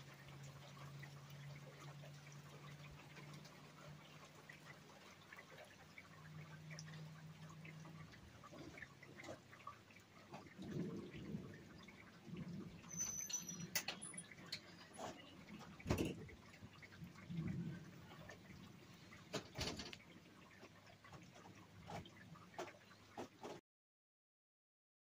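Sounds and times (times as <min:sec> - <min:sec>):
faint rain: 0:00.0 - 0:23.6.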